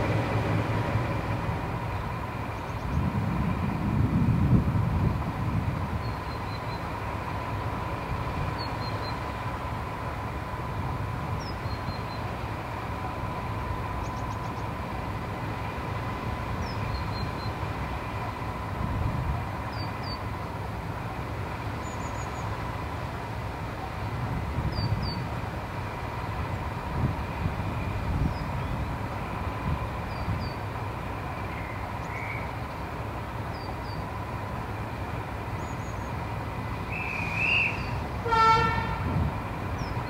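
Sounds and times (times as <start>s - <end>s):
diesel locomotive idling: 0.0s - 40.0s.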